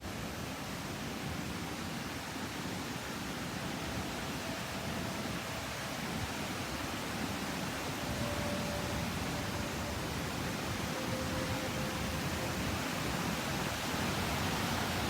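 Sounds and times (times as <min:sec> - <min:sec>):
waterfall rushing: 0:00.1 - 0:15.0.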